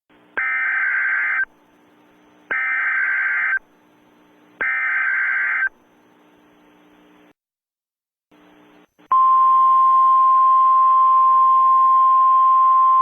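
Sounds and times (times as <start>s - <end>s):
faint static: 0.1s - 7.4s, 8.3s - 13.0s.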